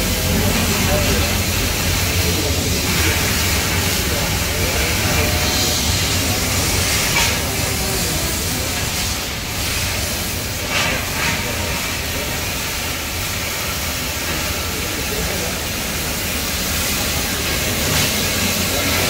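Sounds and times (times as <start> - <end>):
oxygen lance hissing: 0.0 - 19.0.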